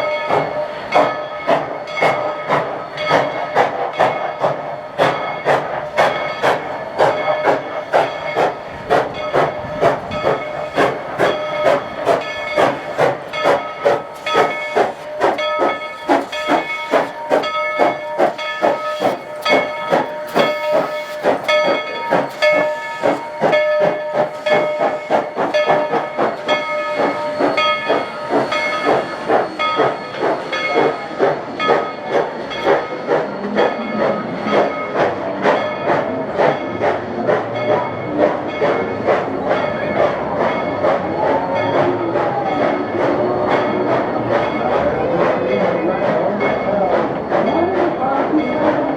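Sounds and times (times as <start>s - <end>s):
steam locomotive chuffing: 0.0s - 48.9s
steam hissing: 0.2s - 48.9s.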